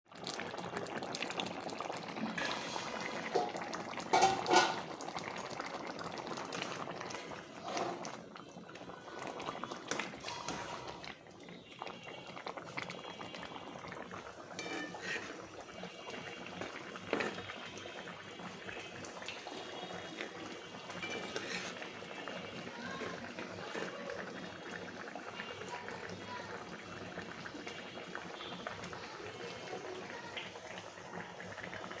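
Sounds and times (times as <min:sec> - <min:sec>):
pot bubbling: 0:00.1 - 0:32.0.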